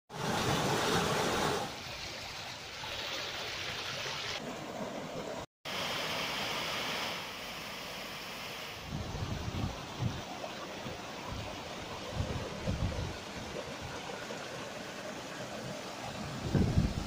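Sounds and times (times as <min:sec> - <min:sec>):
stream water rushing: 0:00.1 - 0:17.0.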